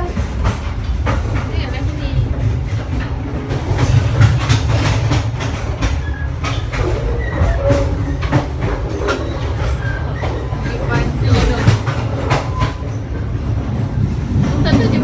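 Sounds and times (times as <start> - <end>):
train rumble on board: 0.0 - 15.0
wheels clacking over rail joints: 0.0 - 15.0.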